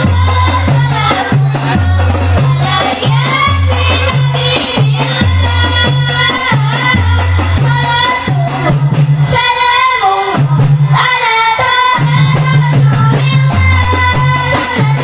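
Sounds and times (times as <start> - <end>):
frame drums with jingles: 0.0 - 9.6, 10.4 - 15.0
hand drums: 0.0 - 9.6, 10.3 - 15.0
girls singing through a pa: 0.0 - 15.0.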